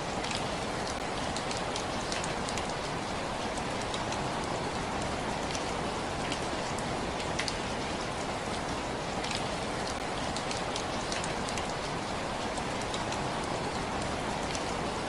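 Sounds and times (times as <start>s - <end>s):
raindrops ticking on a surface: 0.0s - 15.0s
steady rainfall: 0.0s - 15.0s.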